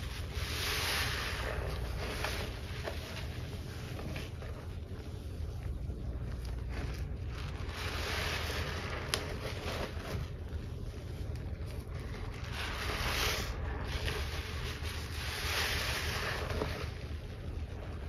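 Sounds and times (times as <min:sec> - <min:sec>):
sponge squelching in wet paste: 0:00.0 - 0:18.0.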